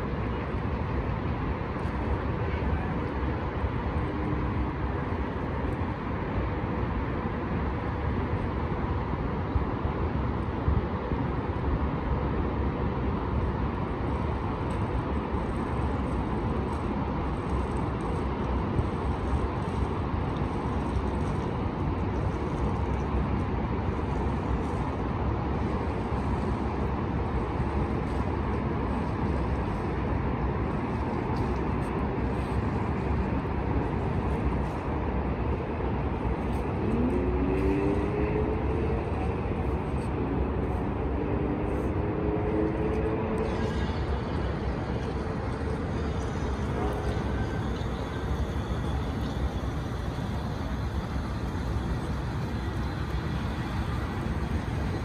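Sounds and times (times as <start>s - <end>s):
distant highway traffic hum: 0.0s - 55.0s.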